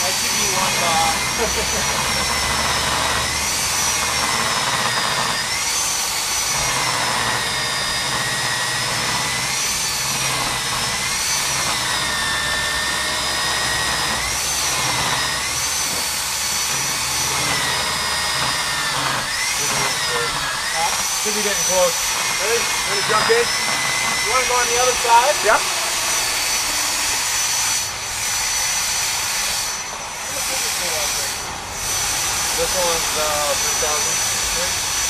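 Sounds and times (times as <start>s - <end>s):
core drill cutting concrete: 0.0s - 35.0s.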